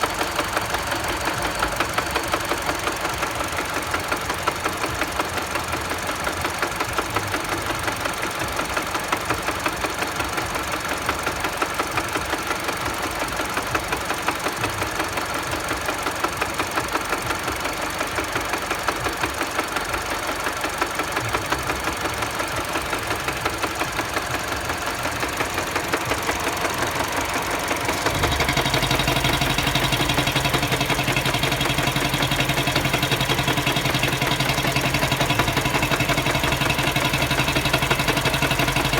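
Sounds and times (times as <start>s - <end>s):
car engine knocking: 0.0s - 38.9s.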